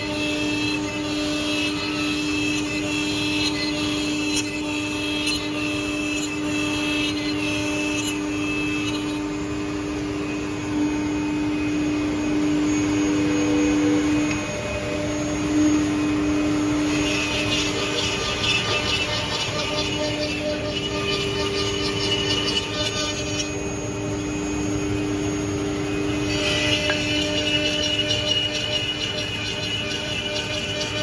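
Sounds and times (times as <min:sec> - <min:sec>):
spindle motors whining: 0:00.0 - 0:31.0.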